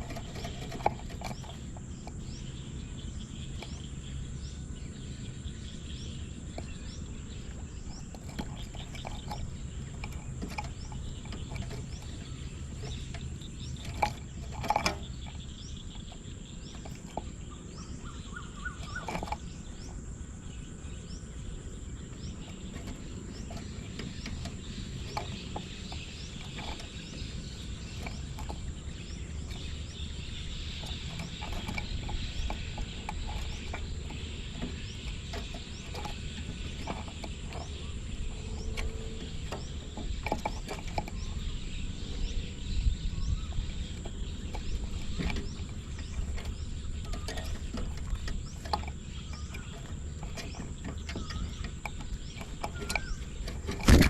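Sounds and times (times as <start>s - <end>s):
low steady rumble: 0.0s - 54.0s
small birds chirping: 0.0s - 54.0s.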